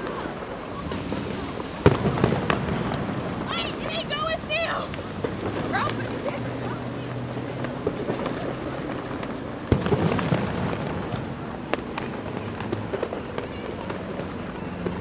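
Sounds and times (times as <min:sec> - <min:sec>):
city street noise: 0:00.0 - 0:15.0
distant fireworks booms: 0:00.0 - 0:15.0.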